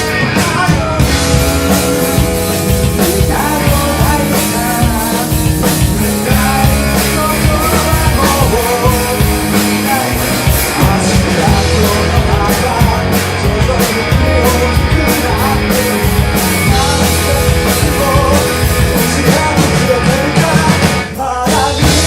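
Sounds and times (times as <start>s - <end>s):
bass guitar: 0.0s - 22.0s
drum kit: 0.0s - 22.0s
person singing: 0.0s - 22.0s.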